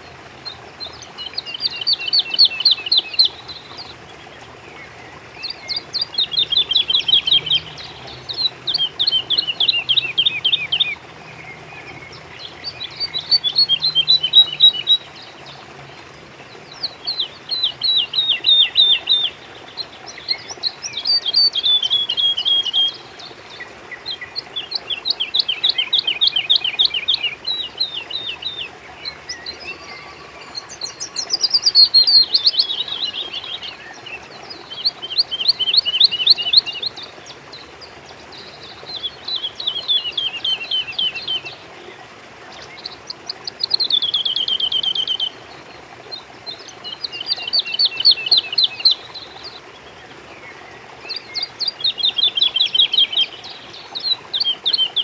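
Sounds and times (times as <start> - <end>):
songbird singing trilled phrases: 0.0 - 55.0.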